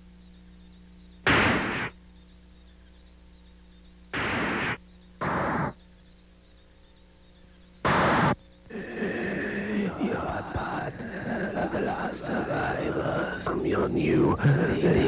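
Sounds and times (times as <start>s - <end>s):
faint electrical hum: 0.0s - 15.0s
television static hiss: 0.0s - 15.0s.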